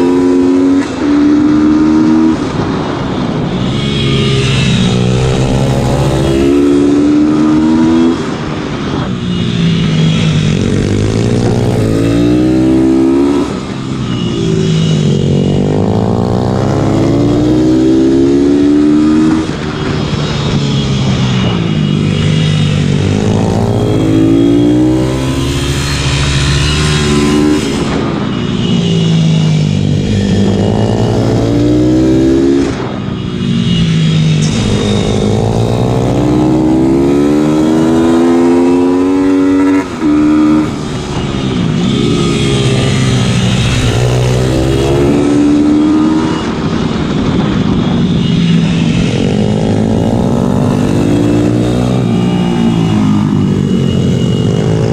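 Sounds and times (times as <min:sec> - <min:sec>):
motorbike engines accelerating: 0:00.0 - 0:54.9.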